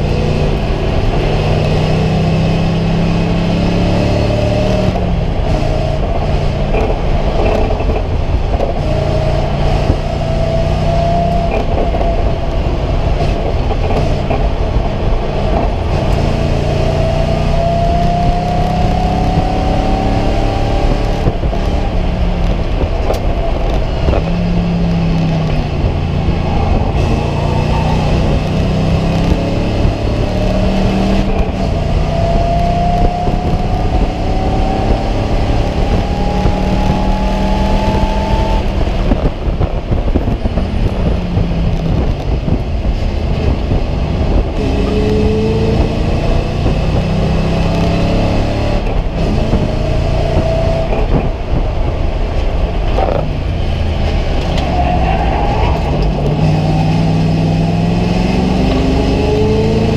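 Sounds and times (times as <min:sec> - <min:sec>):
race car engine accelerating: 0:00.0 - 0:59.9
road and wind noise: 0:00.0 - 0:59.9.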